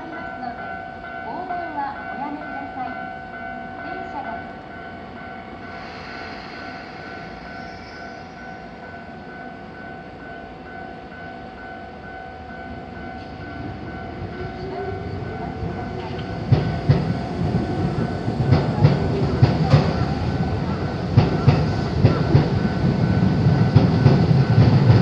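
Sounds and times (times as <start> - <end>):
train approaching: 0.0 - 25.0.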